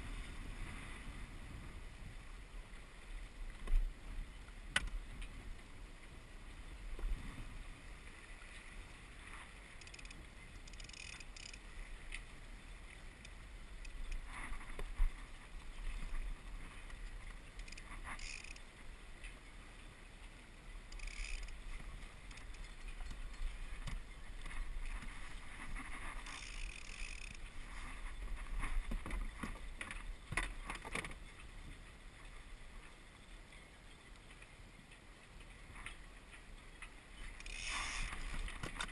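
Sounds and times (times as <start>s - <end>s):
water lapping along hull: 0.0s - 38.9s.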